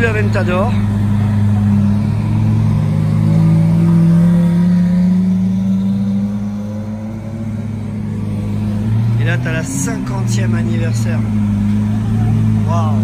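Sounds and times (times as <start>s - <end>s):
sports car pulling away: 0.0s - 13.0s.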